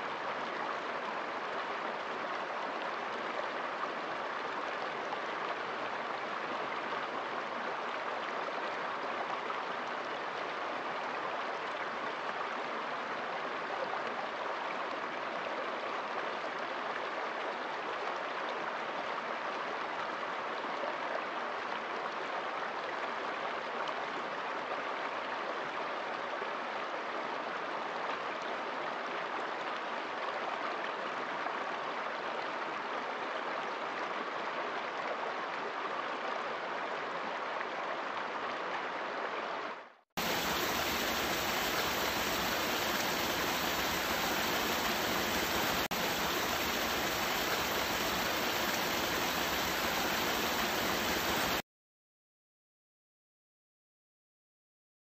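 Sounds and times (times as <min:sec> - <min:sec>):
stream flowing over stones: 0:00.0 - 0:51.6.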